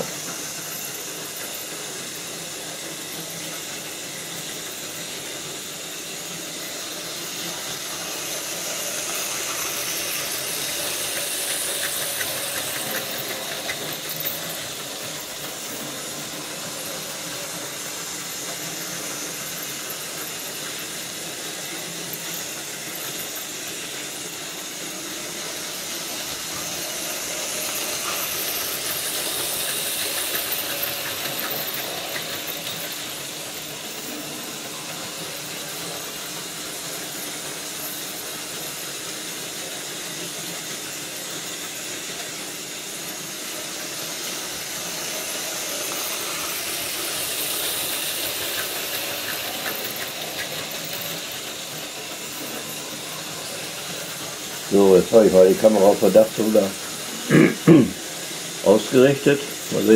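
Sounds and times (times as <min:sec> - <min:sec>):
model train motor whirring: 0:00.0 - 0:59.9
small wheels rattling over track: 0:00.0 - 0:59.9.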